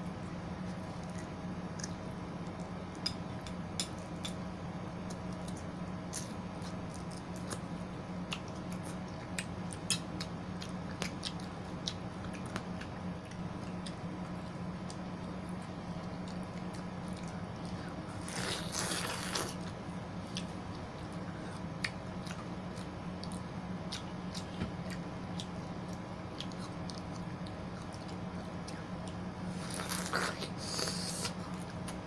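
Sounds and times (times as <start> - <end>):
steady low hum: 0.0 - 32.0
chewing juicy fruit: 0.5 - 32.0.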